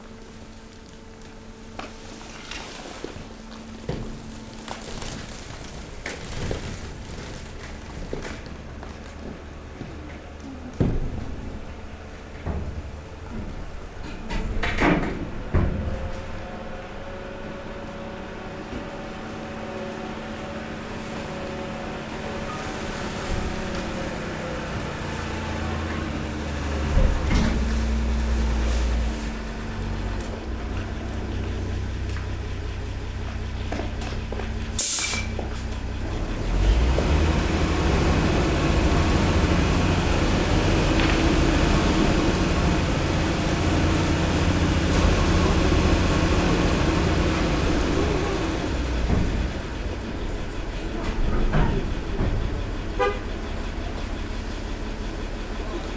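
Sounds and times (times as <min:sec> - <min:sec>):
waste compactor droning: 0:00.0 - 0:55.9.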